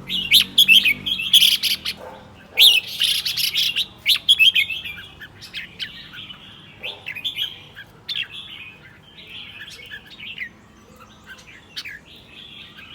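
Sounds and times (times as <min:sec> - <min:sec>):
bird singing sharp chirps: 0:00.0 - 0:12.9.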